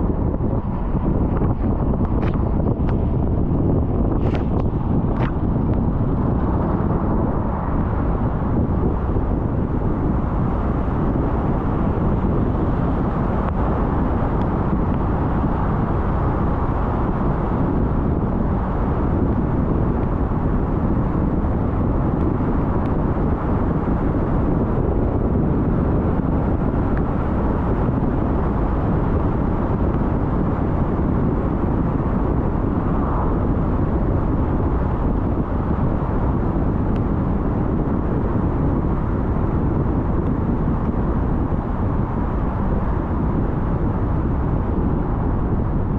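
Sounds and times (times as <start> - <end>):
car tyres and engine rumble: 0.0 - 45.9.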